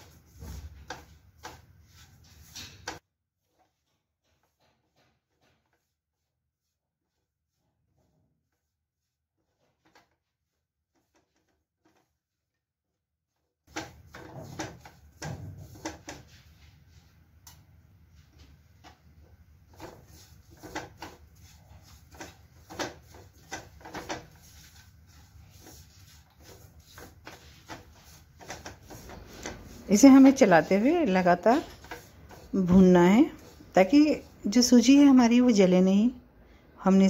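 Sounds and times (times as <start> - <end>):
spatula scraping a pan: 0.0 - 12.1, 13.7 - 16.5, 19.7 - 35.1.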